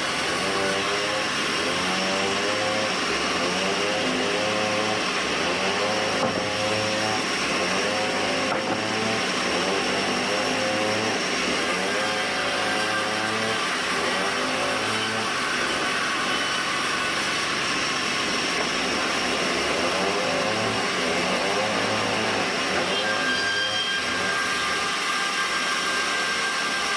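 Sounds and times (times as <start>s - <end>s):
band sawmill running: 0.0s - 26.9s.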